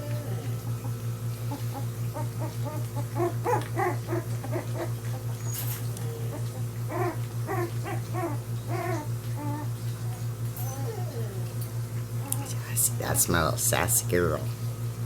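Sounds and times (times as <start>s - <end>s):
puppies whimpering and squeaking: 0.0s - 13.5s
steady low hum: 0.0s - 15.0s.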